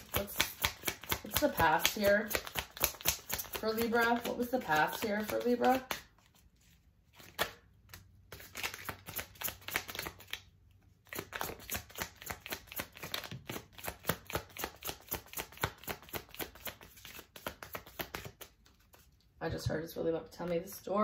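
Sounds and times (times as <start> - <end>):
cards being shuffled: 0.0 - 19.3.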